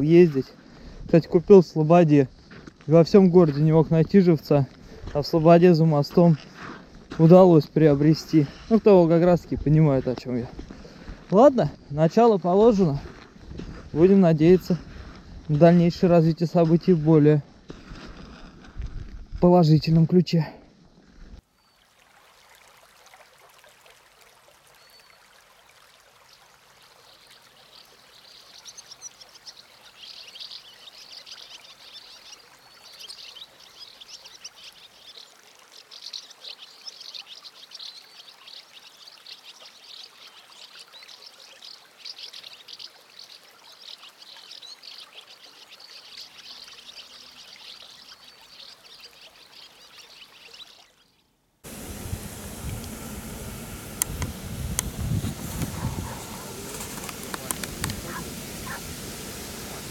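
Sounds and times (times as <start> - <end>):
trickling water: 0.0 - 18.8, 19.8 - 59.9.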